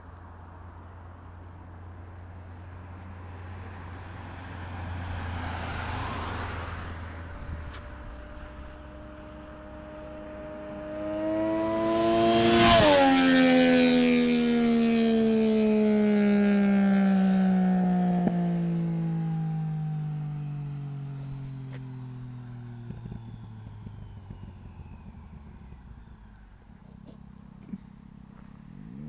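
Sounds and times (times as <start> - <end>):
motorcycle engine passing by: 3.2 - 29.0.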